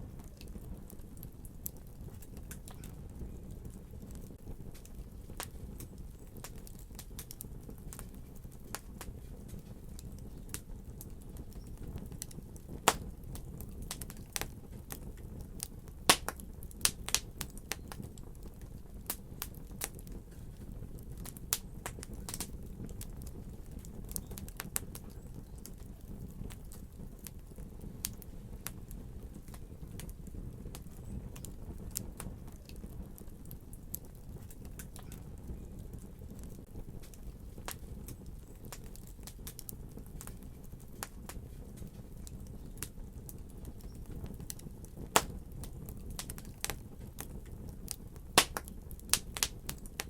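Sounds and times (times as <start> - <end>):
low rumble of burning: 0.0 - 50.0
wood fire crackling: 0.0 - 50.0.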